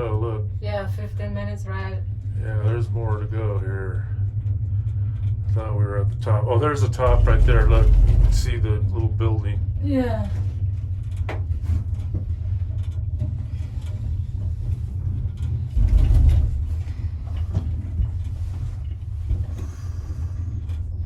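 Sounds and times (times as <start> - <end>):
gondola cabin rumbling on cable: 0.0 - 21.0.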